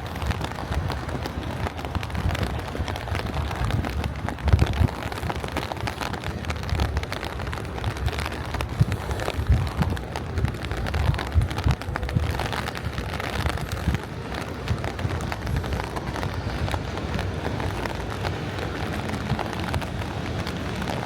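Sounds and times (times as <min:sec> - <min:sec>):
light rain pattering: 0:00.0 - 0:21.0
wind buffeting microphone: 0:00.0 - 0:21.0.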